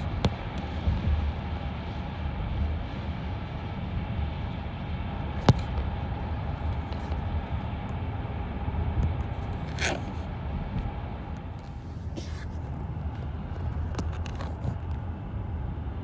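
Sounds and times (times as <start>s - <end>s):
rumble of moving vehicles: 0.0s - 16.0s.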